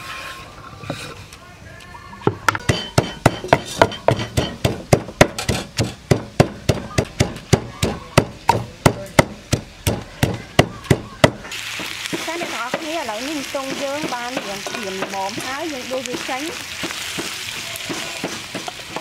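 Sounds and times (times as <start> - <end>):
wooden pestle pounding in mortar: 2.5 - 12.9, 13.7 - 19.0.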